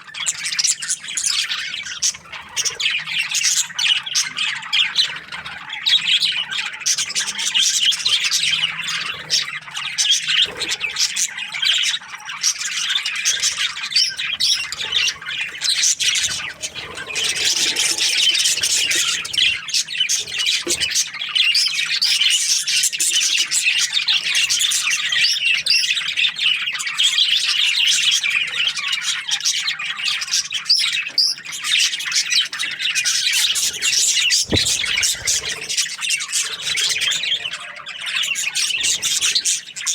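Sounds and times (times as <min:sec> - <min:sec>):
budgerigars chirping: 0:00.1 - 0:39.9.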